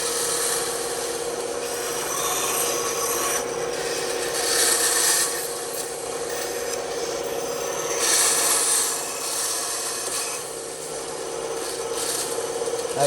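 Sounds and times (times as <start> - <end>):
bandsaw blade cutting wood: 0.0 - 10.7, 11.6 - 13.0
bandsaw humming: 0.0 - 13.0.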